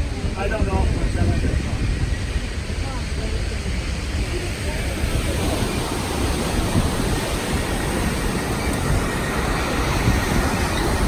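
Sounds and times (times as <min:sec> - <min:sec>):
moving train rushing: 0:00.0 - 0:11.0
wind on microphone: 0:00.0 - 0:11.0.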